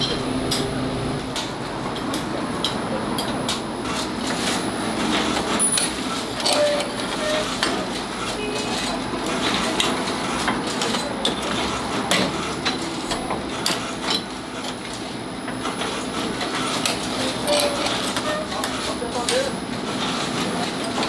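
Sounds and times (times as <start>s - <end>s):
steady mechanical noise: 0.0s - 21.0s.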